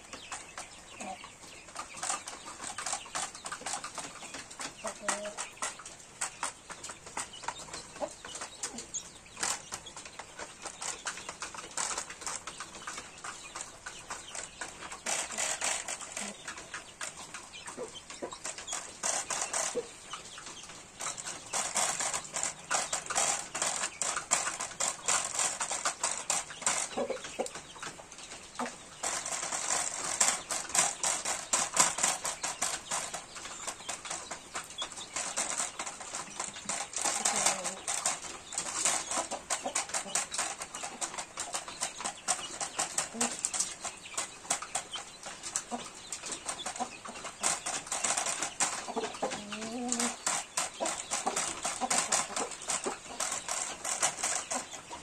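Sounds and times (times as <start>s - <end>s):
chickens clucking: 0.0s - 55.0s
chickens pecking feed tray: 0.0s - 55.0s.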